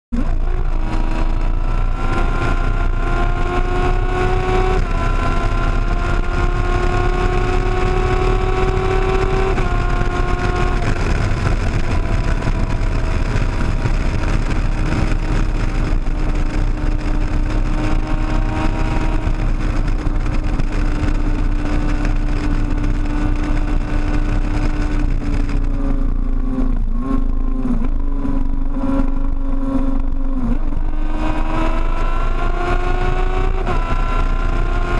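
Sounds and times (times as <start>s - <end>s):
motorcycle engine at speed: 0.2s - 34.9s
wind rumble: 0.2s - 34.9s.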